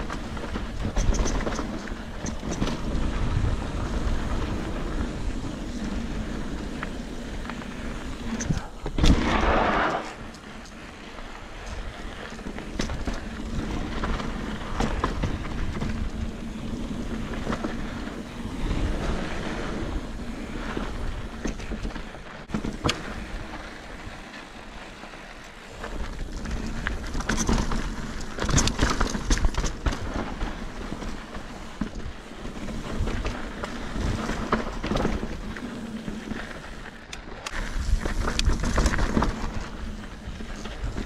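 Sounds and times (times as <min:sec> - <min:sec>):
bike rattling over rocks: 0:00.0 - 0:41.0
bike tyres on dirt: 0:00.0 - 0:41.0
wind noise: 0:00.0 - 0:41.0.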